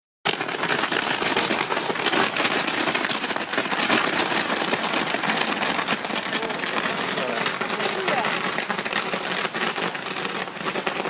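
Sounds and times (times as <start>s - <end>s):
fireworks crackling: 0.2s - 11.0s.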